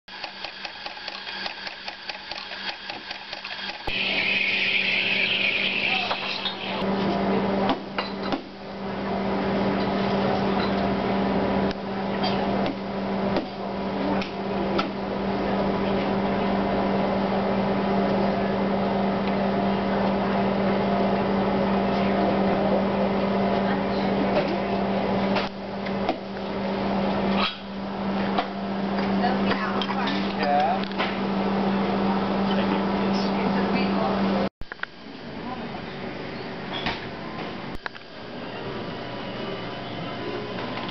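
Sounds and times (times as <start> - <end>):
steady machine hum: 0.1 - 40.9.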